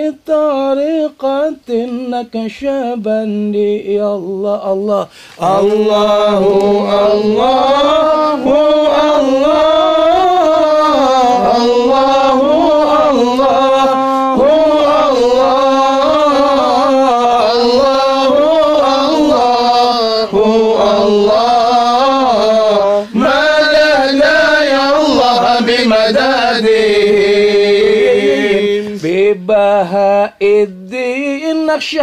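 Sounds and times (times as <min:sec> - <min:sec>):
man chanting unaccompanied: 0:00.0 - 0:32.0.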